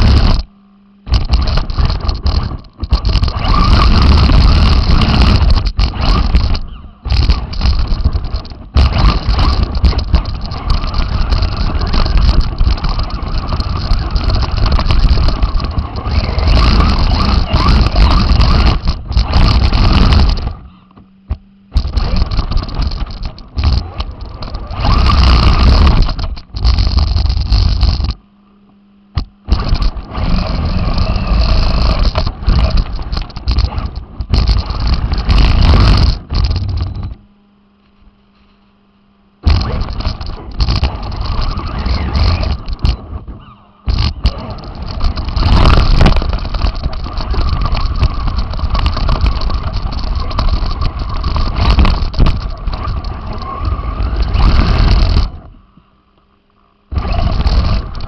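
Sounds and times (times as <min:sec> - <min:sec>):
radio-controlled car rattling: 0:00.0 - 0:28.2, 0:29.1 - 0:37.2, 0:39.4 - 0:58.0
low steady hum: 0:00.0 - 0:58.0.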